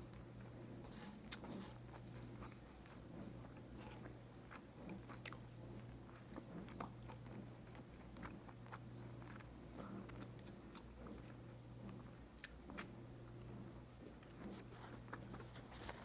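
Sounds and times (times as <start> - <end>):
wet chewing: 0.1 - 16.0.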